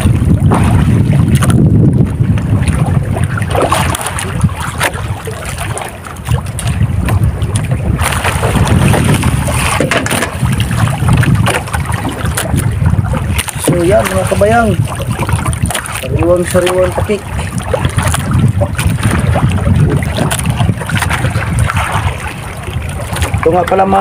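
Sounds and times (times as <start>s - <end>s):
water sloshing against boat hull: 0.0s - 24.0s
wind buffeting microphone: 0.0s - 24.0s.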